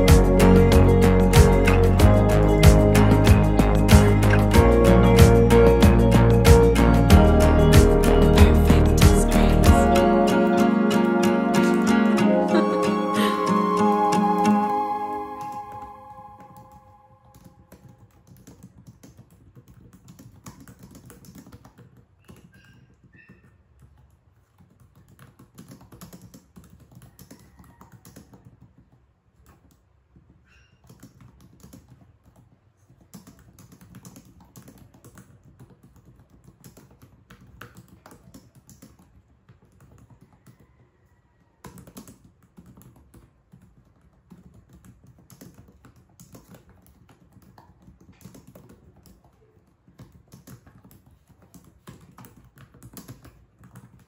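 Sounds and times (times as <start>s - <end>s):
laptop keyboard typing: 0.0s - 12.7s, 14.3s - 54.0s.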